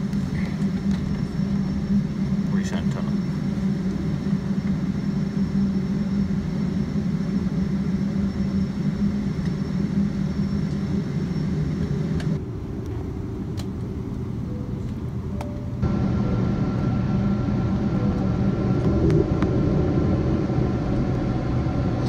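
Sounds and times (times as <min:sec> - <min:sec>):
airplane cabin rumble: 0:00.0 - 0:22.0
faint high whine: 0:00.0 - 0:22.0.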